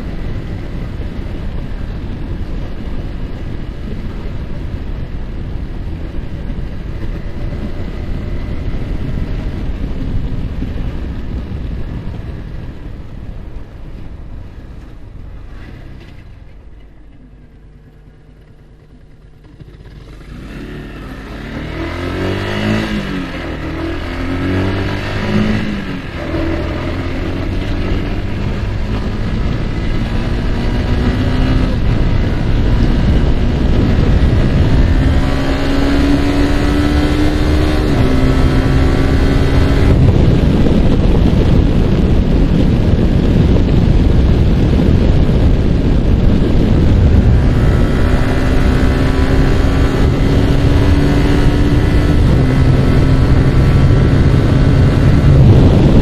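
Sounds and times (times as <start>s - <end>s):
wind rushing on microphone: 0.0s - 18.2s, 18.8s - 56.0s
motorcycle engine accelerating: 0.0s - 56.0s.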